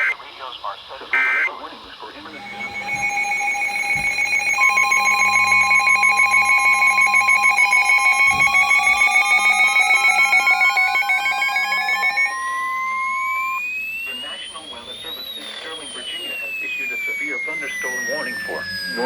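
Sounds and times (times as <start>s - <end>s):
pulsing two-pitch electronic alarm: 1.2s - 1.5s, 2.3s - 19.0s
steady alert tone: 2.3s - 19.0s
tone sweeping upward in pitch: 2.3s - 19.0s.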